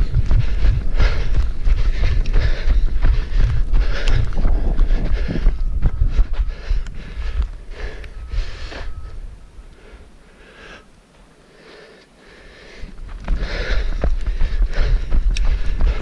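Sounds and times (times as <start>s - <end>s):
wind rumble on microphone: 0.0s - 10.2s, 12.8s - 16.0s
runner breathing hard: 0.0s - 16.0s.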